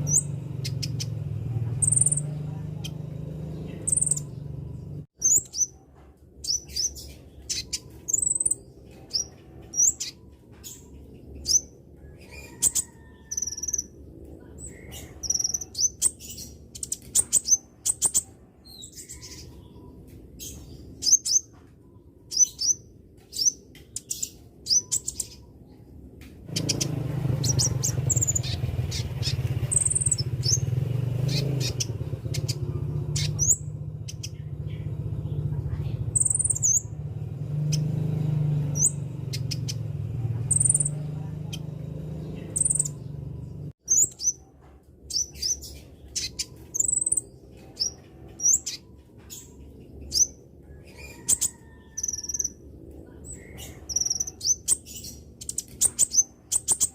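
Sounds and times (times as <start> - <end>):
young bird chirping: 0.0 - 5.8, 6.4 - 25.6, 26.5 - 56.9
low background rumble: 0.0 - 56.5.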